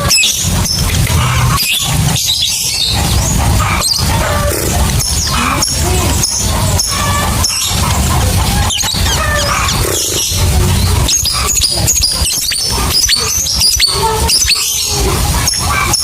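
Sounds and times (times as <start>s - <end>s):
lovebird chirping: 0.0s - 16.0s.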